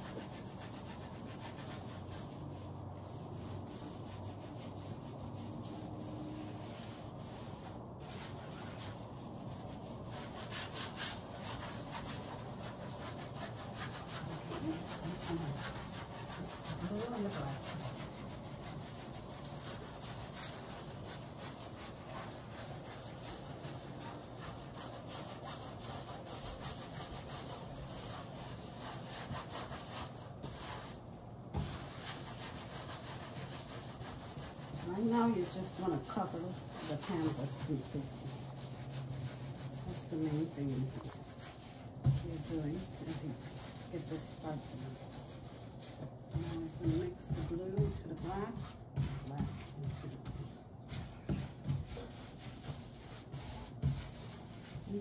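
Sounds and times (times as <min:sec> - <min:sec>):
gloved hand rubbing paint on canvas: 0:00.0 - 0:55.0.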